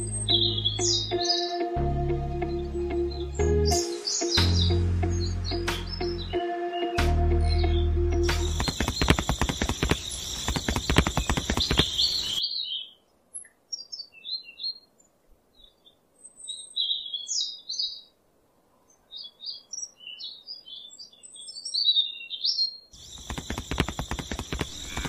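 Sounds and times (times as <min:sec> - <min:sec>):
small birds chirping: 0:00.0 - 0:01.8, 0:02.4 - 0:18.2, 0:18.9 - 0:25.0.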